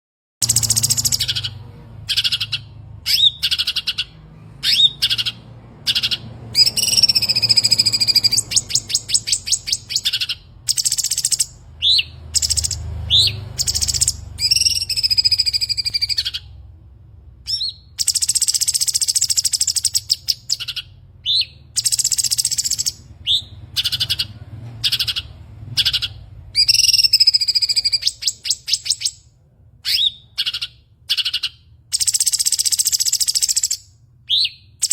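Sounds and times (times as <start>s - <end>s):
songbird whistling and trilling: 0.4s - 16.6s, 17.4s - 34.9s.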